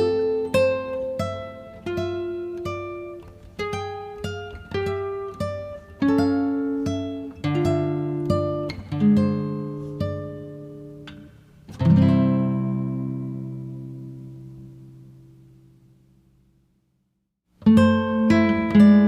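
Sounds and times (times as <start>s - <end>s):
acoustic guitar plucked notes: 0.0s - 16.1s, 17.6s - 19.0s.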